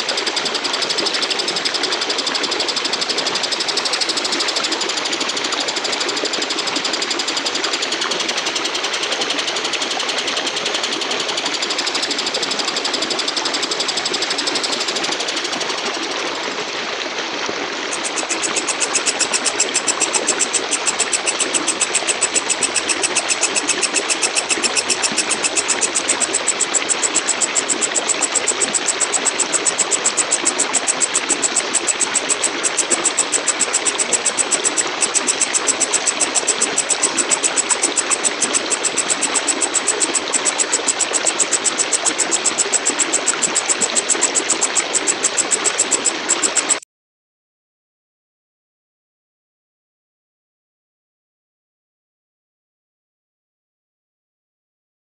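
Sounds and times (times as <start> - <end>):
katydid buzzing trill and chirps: 0.0 - 15.5, 18.0 - 46.8.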